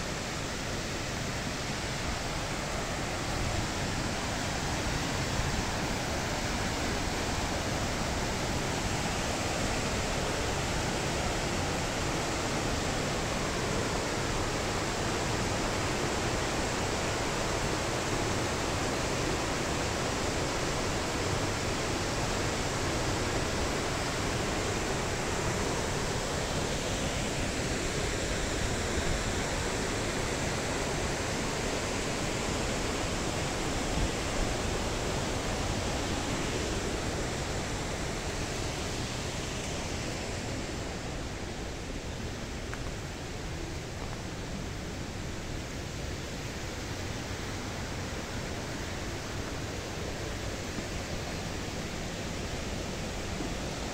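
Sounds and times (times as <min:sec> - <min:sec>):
waterfall and stream rushing: 0:00.0 - 0:53.9.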